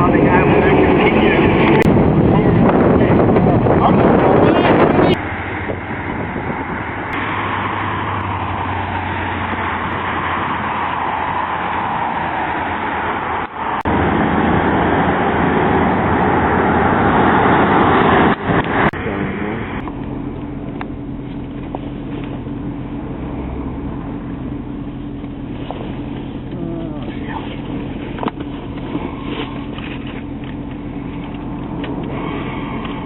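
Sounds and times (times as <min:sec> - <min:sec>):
car engine: 0:00.0 - 0:33.0
road noise: 0:00.0 - 0:33.0.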